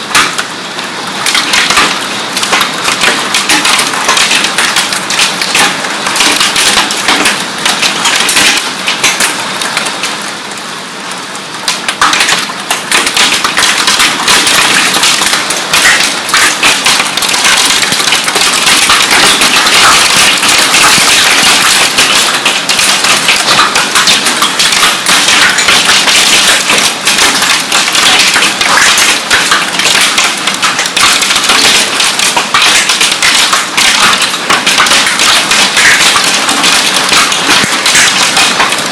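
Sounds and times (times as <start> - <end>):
hail clattering on hard surfaces: 0.0 - 38.9.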